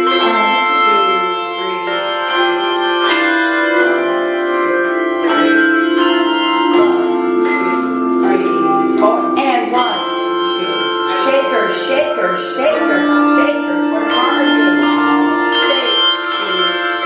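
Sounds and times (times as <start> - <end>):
handbells ringing a melody: 0.0 - 17.0.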